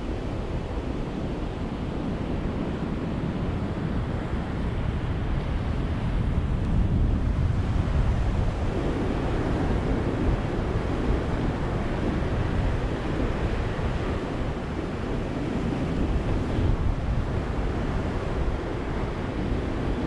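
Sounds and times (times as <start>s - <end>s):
waves washing on a beach: 0.0s - 20.0s.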